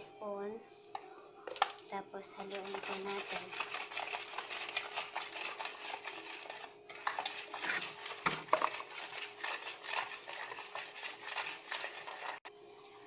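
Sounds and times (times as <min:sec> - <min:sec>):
spoon stirring water in bowl: 0:01.5 - 0:12.5.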